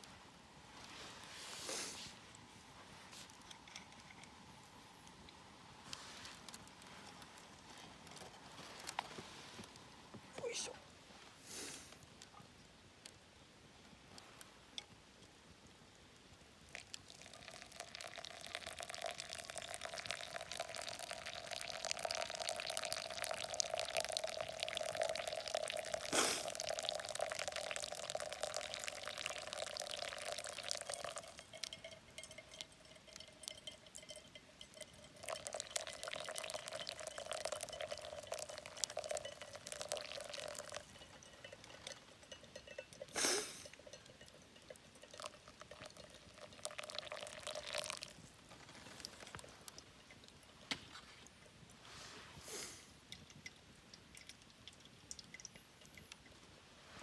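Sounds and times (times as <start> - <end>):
hot water pouring in a thin stream: 0.0 - 57.0.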